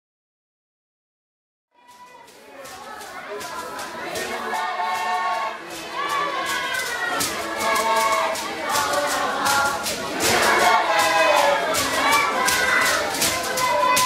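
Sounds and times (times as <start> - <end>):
sharp percussive beats: 2.0 - 14.0
group singing: 2.6 - 14.0.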